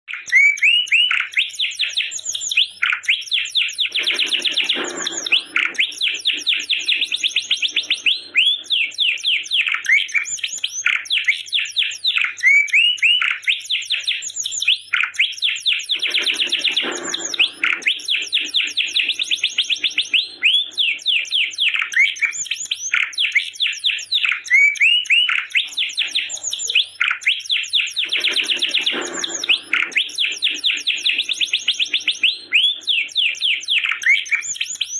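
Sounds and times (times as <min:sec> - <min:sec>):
canary singing trills and chirps: 0:00.1 - 0:34.9.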